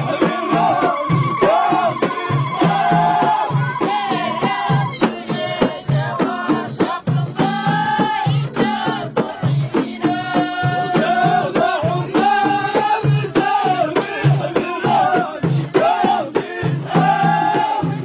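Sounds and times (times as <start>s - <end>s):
frame drums beating: 0.0s - 18.0s
voices singing: 0.0s - 18.0s.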